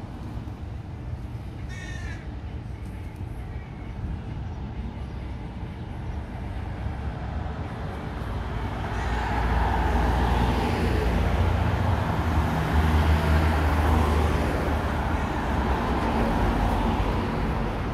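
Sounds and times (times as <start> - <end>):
vehicles passing on street: 0.0 - 17.9.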